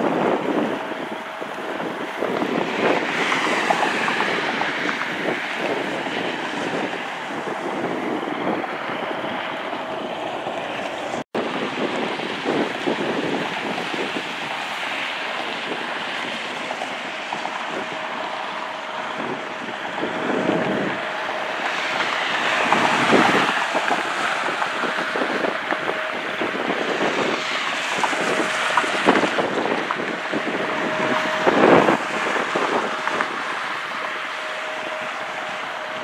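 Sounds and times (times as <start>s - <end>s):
cars swishing past: 0.0s - 36.0s
distant jet noise: 0.0s - 36.0s
wind on microphone: 0.0s - 36.0s.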